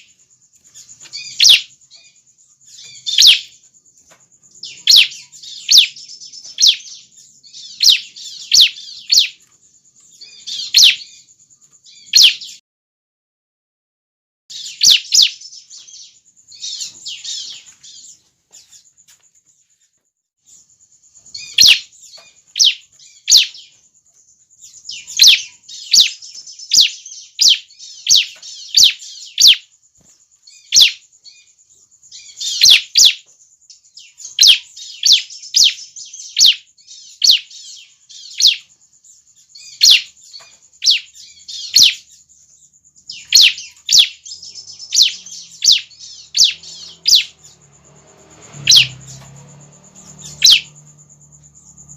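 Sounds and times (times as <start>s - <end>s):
high bird chirps: 0.0s - 12.6s, 14.5s - 19.0s, 19.6s - 51.9s.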